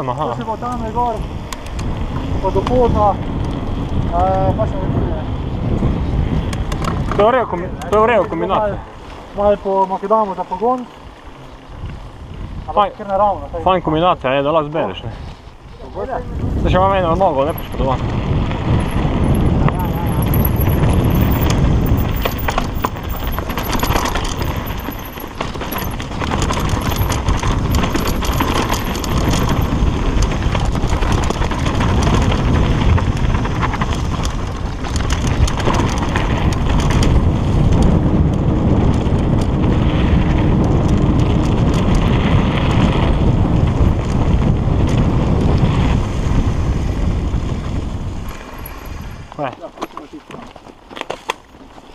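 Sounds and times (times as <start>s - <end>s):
wind rushing over microphone: 0.0s - 50.6s
bike clicks and rattles: 0.0s - 51.9s
tyres rolling over gravel: 0.0s - 51.9s.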